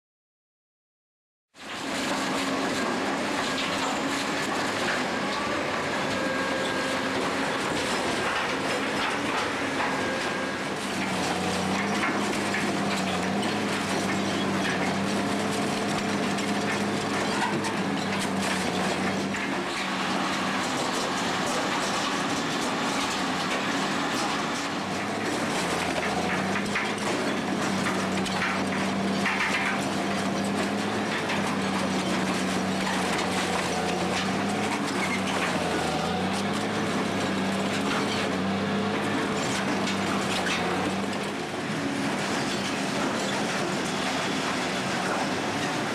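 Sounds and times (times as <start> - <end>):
shredder engine humming: 1.7 - 45.9
wood cracking and splintering: 6.2 - 45.9.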